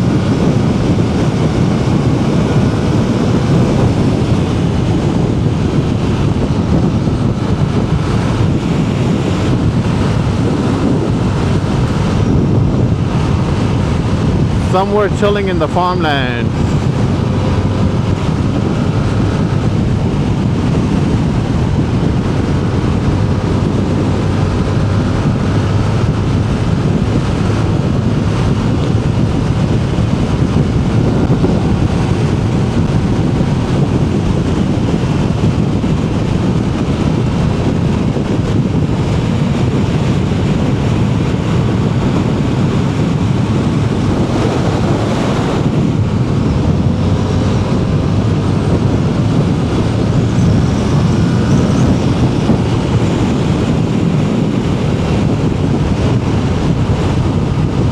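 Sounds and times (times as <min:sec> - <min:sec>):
motorcycle engine cruising: 0:00.0 - 0:14.7, 0:16.6 - 0:55.2
wind rushing on microphone: 0:00.0 - 0:57.9.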